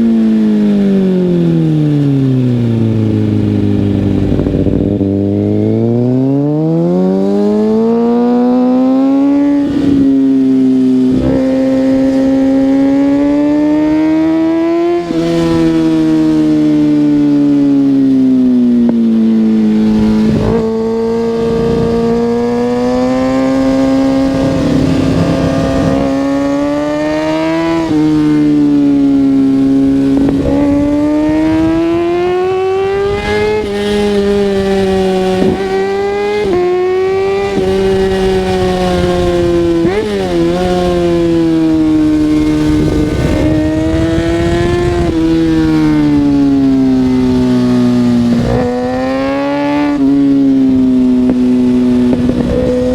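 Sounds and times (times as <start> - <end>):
motorcycle engine revving: 0.0 - 52.9
rushing wind noise: 2.0 - 6.0, 9.3 - 18.1, 19.3 - 52.9.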